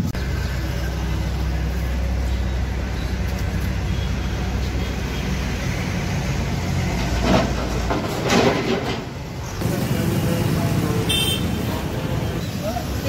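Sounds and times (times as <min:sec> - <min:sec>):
vehicle engine running: 0:00.0 - 0:08.0, 0:09.5 - 0:13.0.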